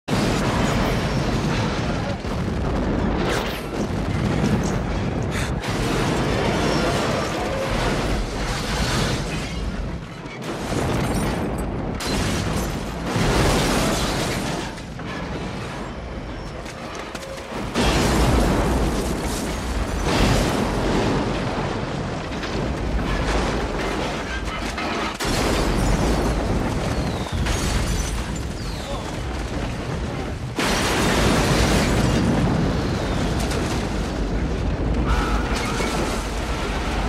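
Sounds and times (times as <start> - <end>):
loud explosion blast and rumble: 0.1 - 37.0.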